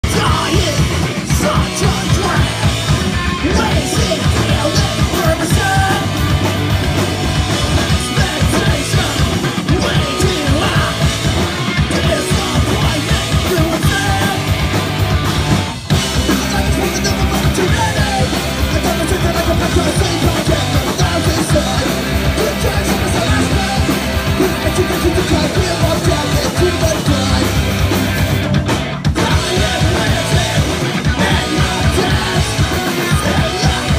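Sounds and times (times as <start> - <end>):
punk band playing live: 0.0 - 33.9.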